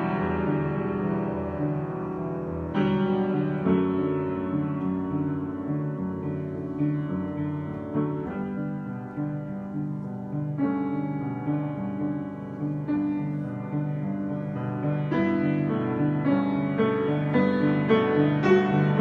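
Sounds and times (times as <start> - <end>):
solo piano improvisation: 0.0 - 19.0.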